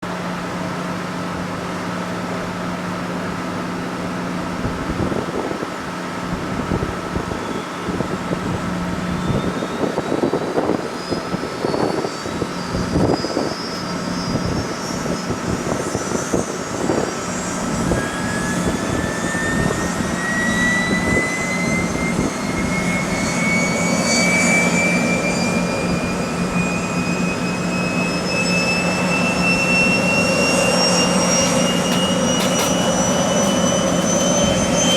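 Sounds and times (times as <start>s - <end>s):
turbofan engine whine rising: 0.0s - 34.9s
lower rising whine: 4.2s - 34.9s.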